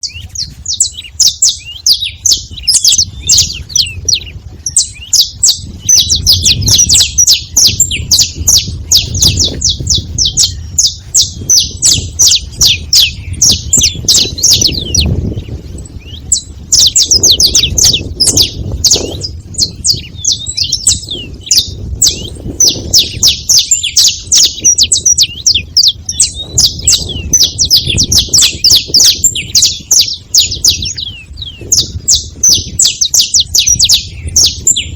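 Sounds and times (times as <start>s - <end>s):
finch chirping: 0.0s - 34.9s.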